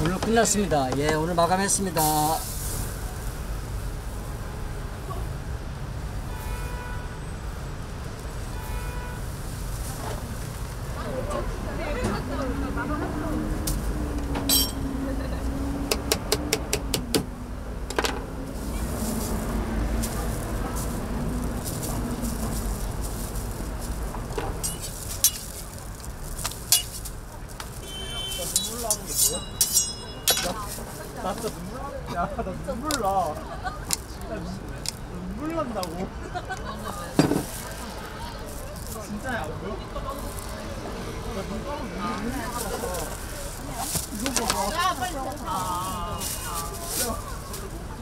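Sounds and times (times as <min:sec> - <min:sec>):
passing vehicles rumbling: 0:00.0 - 0:48.0.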